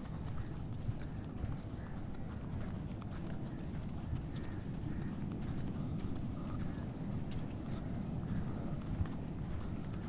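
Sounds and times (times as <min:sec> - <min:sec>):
footsteps on sand: 0:00.0 - 0:10.0
wind rumble on microphone: 0:00.0 - 0:10.0.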